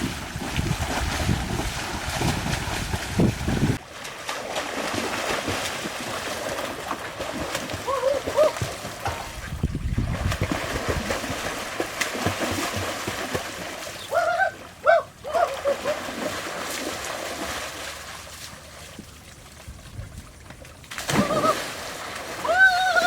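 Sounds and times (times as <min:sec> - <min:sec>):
water splashing in pool: 0:00.0 - 0:23.0.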